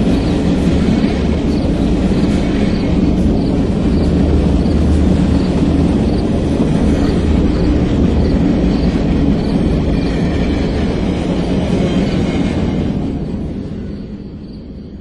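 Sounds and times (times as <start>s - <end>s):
rhythmic rail clicks: 0.0s - 15.0s
train rumbling past: 0.0s - 15.0s.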